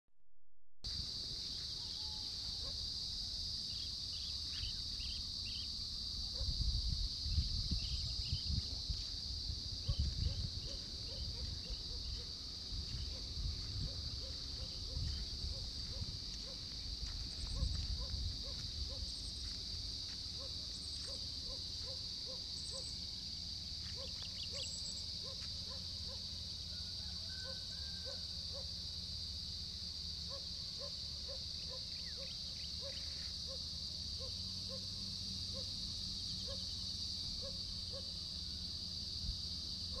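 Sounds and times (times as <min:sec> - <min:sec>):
insects droning: 0:00.9 - 0:40.0.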